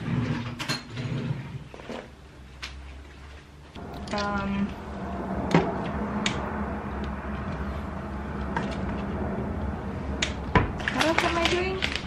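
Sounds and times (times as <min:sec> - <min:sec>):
steady low hum: 0:01.4 - 0:12.0.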